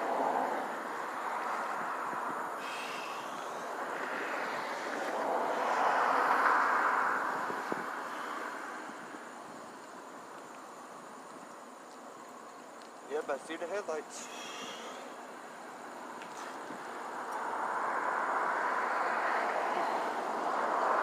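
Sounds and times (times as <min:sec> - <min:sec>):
passing vehicle rushing: 0:00.0 - 0:09.4, 0:13.2 - 0:21.0.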